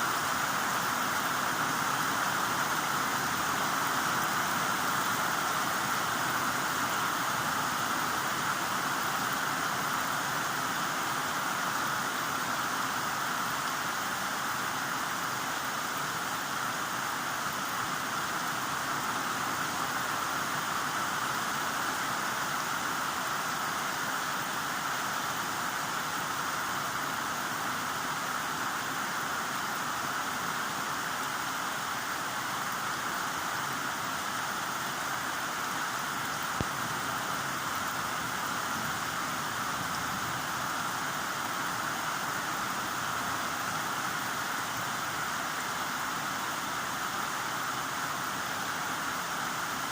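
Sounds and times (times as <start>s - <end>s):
heavy rain hiss: 0.0s - 49.9s.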